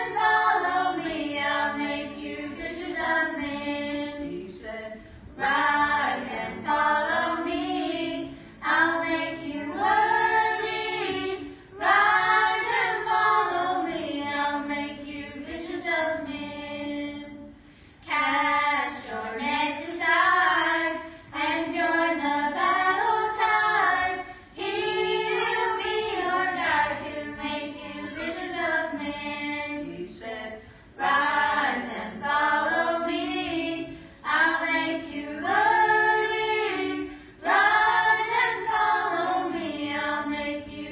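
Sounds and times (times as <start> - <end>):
children singing a worship song: 0.0 - 40.9.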